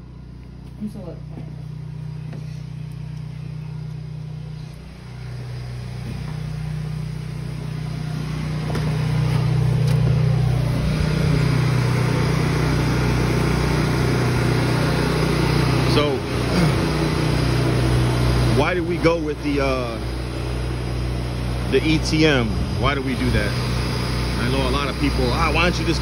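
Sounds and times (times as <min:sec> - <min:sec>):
carpet-cleaning machine droning: 0:00.0 - 0:26.0.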